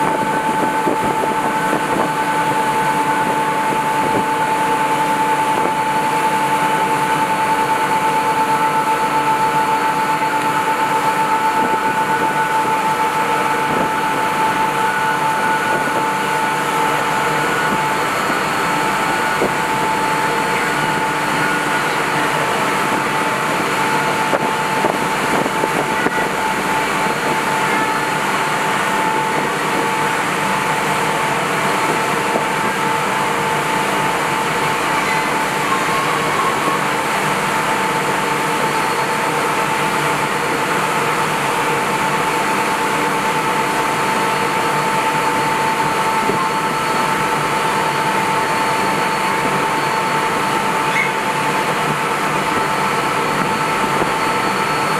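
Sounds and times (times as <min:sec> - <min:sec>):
constant high whine: 0:00.0 - 0:54.9
ferry engine and water rush: 0:00.0 - 0:54.9.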